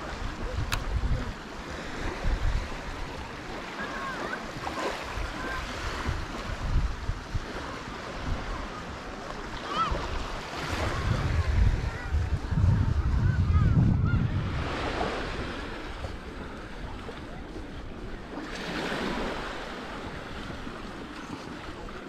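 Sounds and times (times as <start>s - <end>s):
sea surf washing ashore: 0.0s - 22.0s
wind buffeting microphone: 0.0s - 22.0s.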